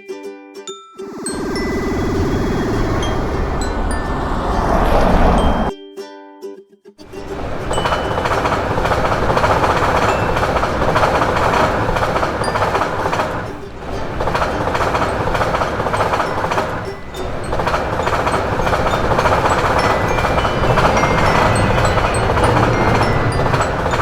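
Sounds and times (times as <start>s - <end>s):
train wheels rumbling on rails: 1.2s - 5.7s, 7.2s - 24.0s.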